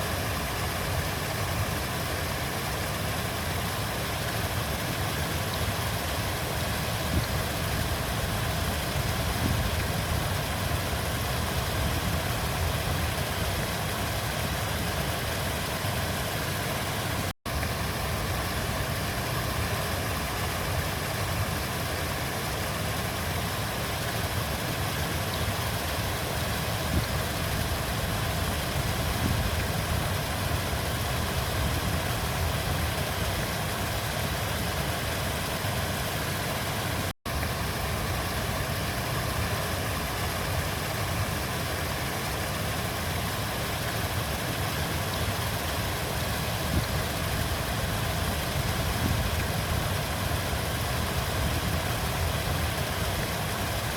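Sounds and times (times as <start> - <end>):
river flowing: 0.0 - 53.9.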